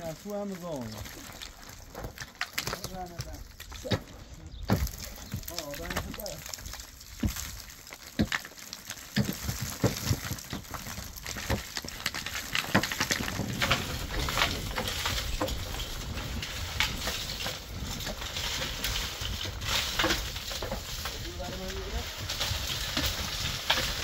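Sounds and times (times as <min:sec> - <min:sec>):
earth and debris falling: 0:00.0 - 0:24.0.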